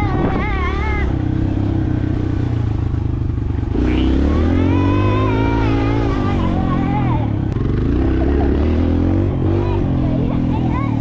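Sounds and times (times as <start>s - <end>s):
dirt bike engine accelerating: 0.0s - 11.0s.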